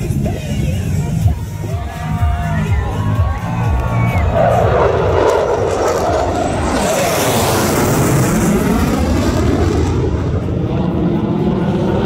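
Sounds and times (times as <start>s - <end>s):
fighter jets roaring overhead: 1.6s - 12.0s.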